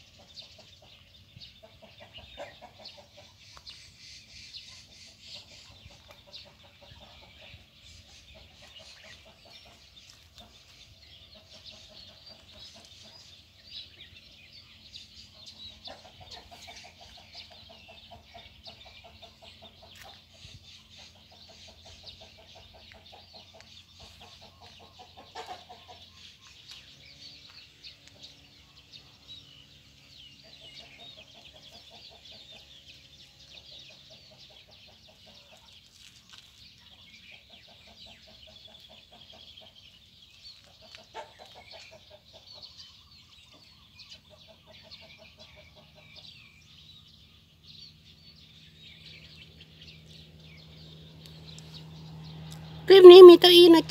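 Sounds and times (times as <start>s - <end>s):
birds chirping: 0.0s - 53.9s
chickens clucking: 0.0s - 53.9s.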